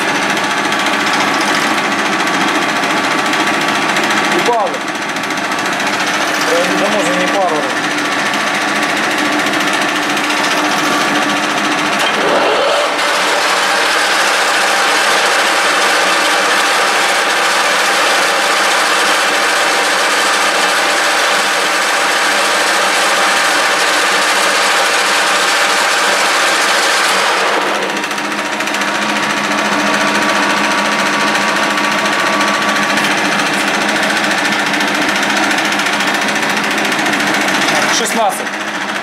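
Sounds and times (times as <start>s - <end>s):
lathe running: 0.0s - 39.0s.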